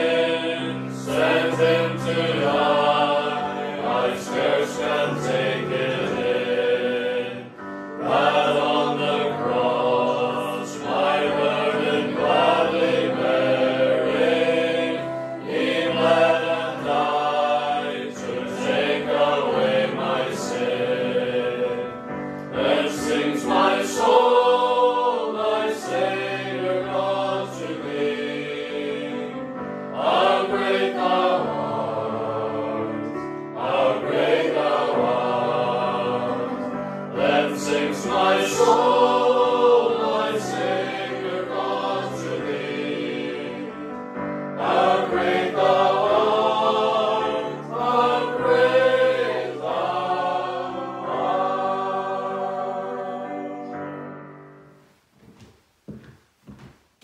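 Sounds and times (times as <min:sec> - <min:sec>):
mixed choir singing: 0:00.0 - 0:54.3.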